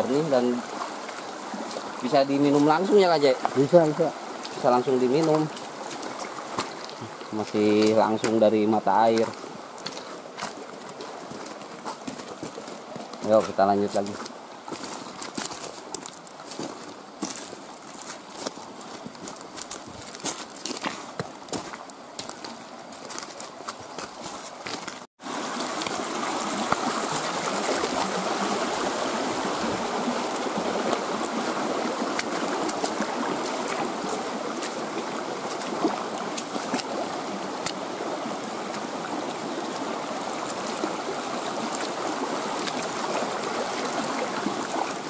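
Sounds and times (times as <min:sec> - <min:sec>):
flowing stream water: 0:00.0 - 0:45.0.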